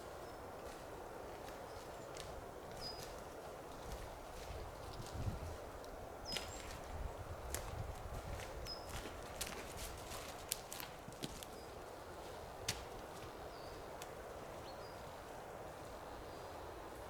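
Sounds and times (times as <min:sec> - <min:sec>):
footsteps crunching on forest floor: 0:00.0 - 0:16.0.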